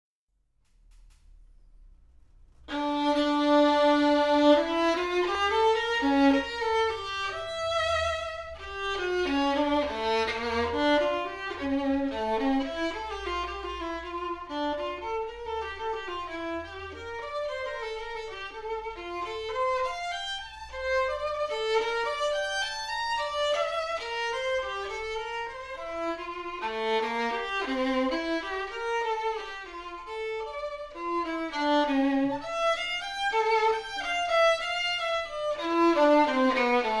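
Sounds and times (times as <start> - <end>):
violin playing quick melody: 2.6 - 37.0.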